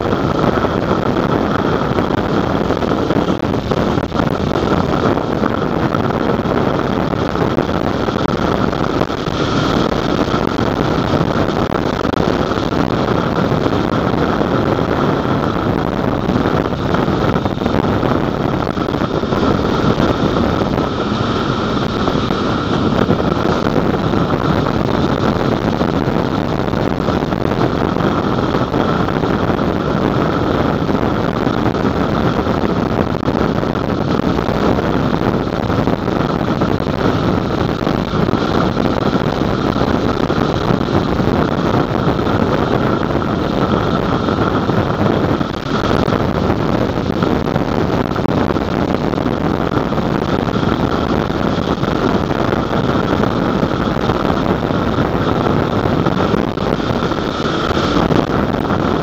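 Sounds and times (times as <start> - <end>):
vehicle road noise: 0.0 - 59.0
wind on microphone: 0.0 - 59.0.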